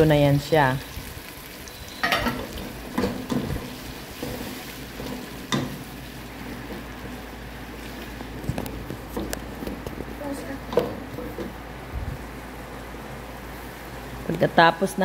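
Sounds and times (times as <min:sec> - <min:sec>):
gravy sizzling in pot: 0:00.0 - 0:15.0.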